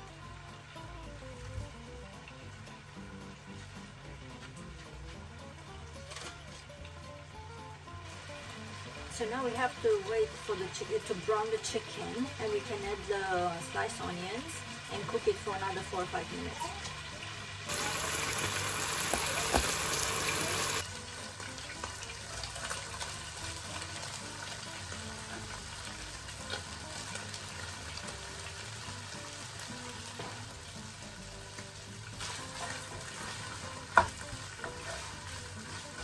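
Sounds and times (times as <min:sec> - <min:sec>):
chicken and onion sizzling in pan: 0:00.0 - 0:36.0.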